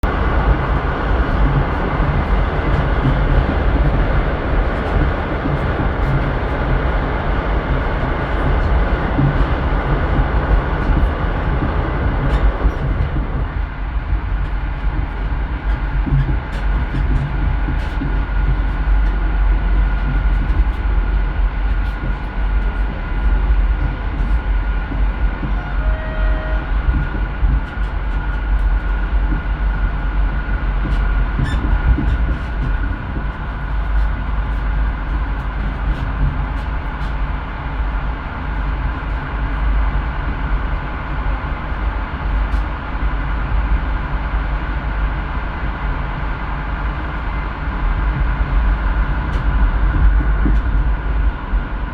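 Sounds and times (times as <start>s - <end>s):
train rumbling over bridge: 0.0s - 51.9s.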